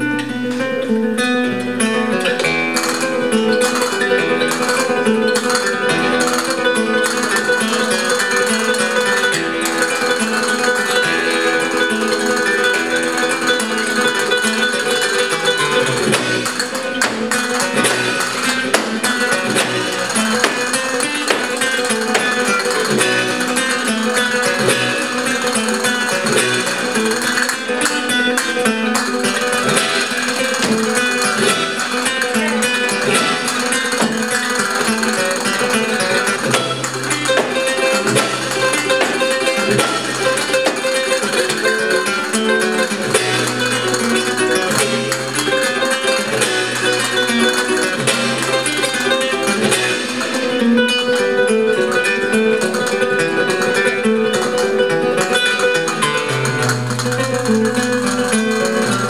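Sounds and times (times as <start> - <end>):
flamenco acoustic guitar: 0.0 - 59.0
sharp percussive taps: 0.2 - 59.0.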